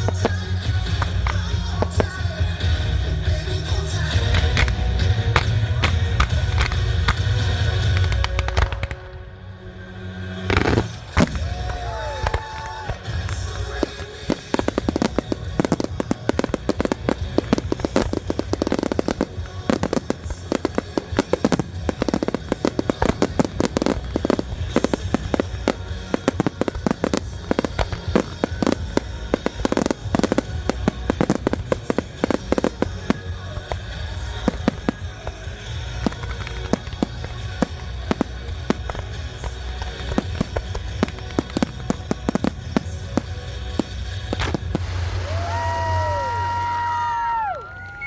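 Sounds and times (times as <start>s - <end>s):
fireworks bangs and crackles: 0.0s - 9.4s, 10.2s - 48.0s
music playing: 0.0s - 48.0s.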